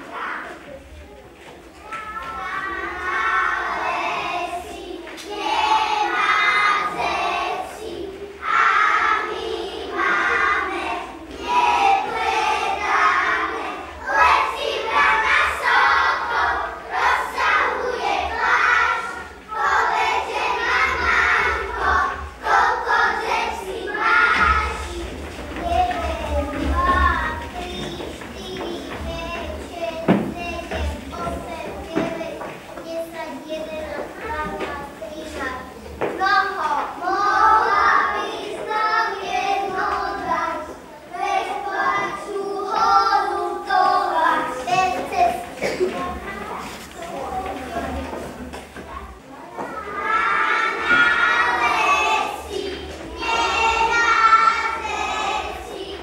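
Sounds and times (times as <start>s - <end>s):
young children singing: 0.0s - 56.0s.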